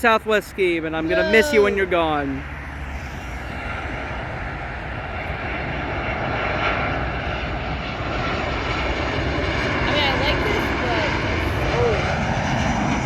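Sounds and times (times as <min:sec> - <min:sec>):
faint jet engine whine: 0:00.0 - 0:13.0
jet airliner rumble: 0:00.0 - 0:13.0.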